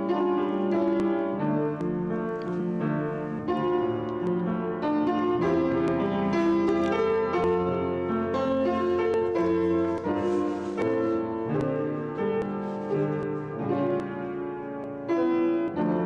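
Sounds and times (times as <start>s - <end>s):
piano piece: 0.0s - 16.0s.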